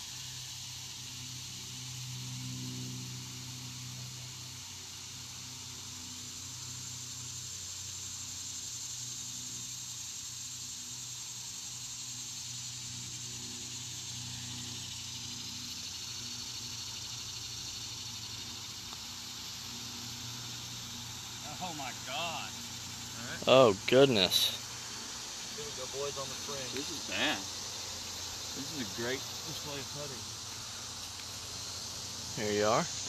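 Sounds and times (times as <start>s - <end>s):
high insect chorus: 0.0s - 33.0s.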